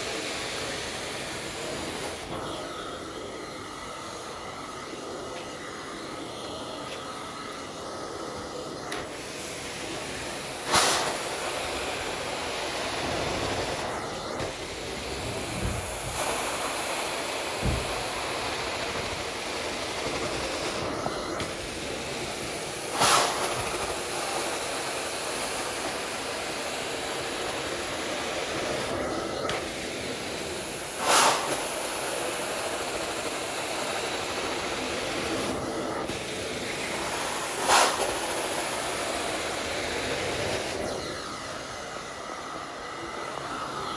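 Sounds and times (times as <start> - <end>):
extraction wand suction hiss: 0.0 - 43.9.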